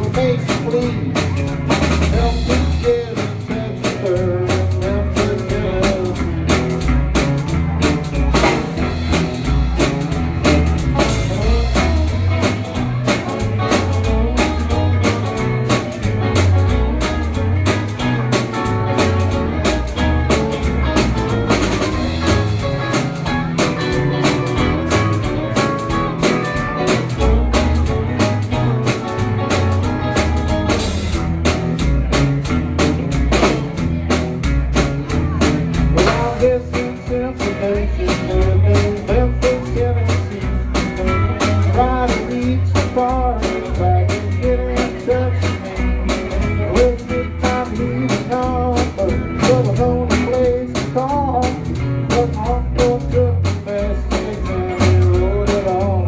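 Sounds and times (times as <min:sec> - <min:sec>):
drum kit keeping a steady beat: 0:00.0 - 0:56.0
electric guitars: 0:00.0 - 0:56.0.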